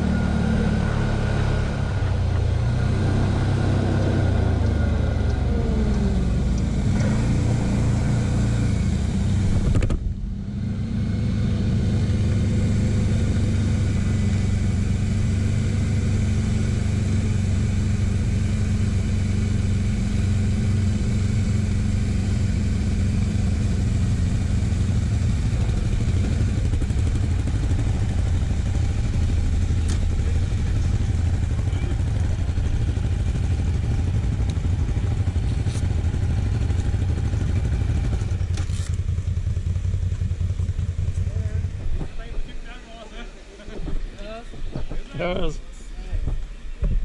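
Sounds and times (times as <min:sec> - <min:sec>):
quad engine running: 0:00.0 - 0:43.9.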